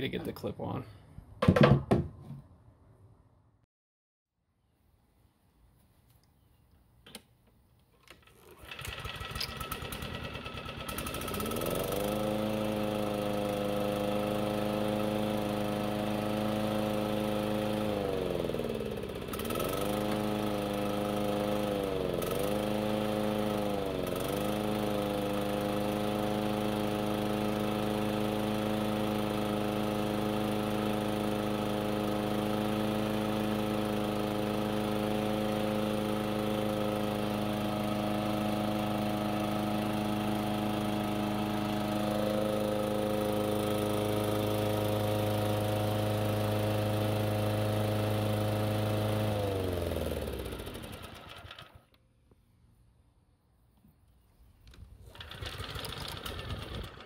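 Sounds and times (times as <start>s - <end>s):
lawn mower engine running: 7.1s - 52.1s, 54.7s - 57.0s.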